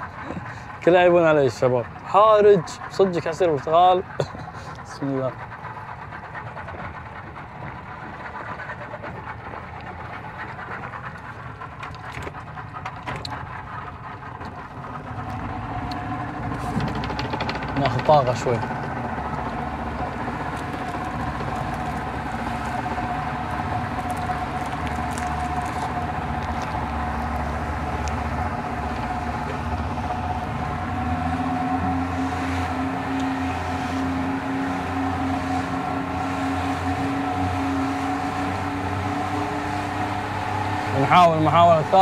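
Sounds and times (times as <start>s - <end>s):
motorboat engine running: 0.0s - 42.0s.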